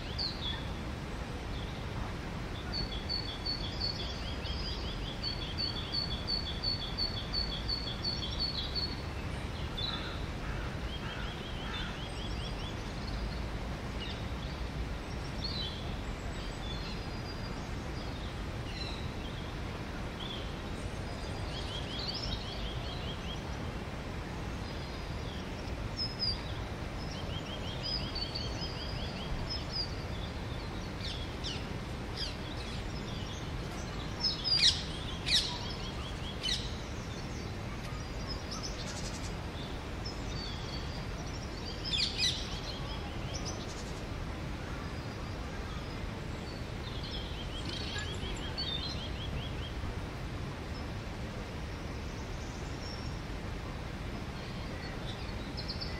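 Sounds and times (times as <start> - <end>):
songbirds singing and chirping: 0.0 - 55.9.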